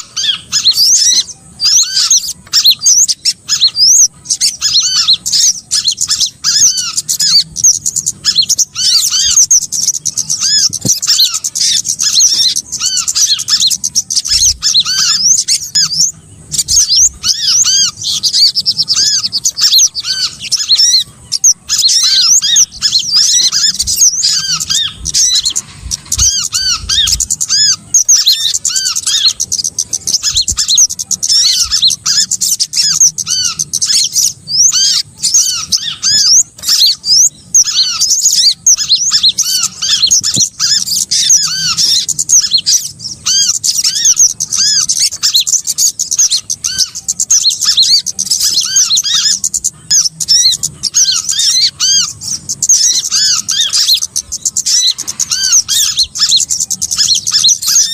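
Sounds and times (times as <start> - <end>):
small songbirds chirping rapidly: 0.0 - 57.9.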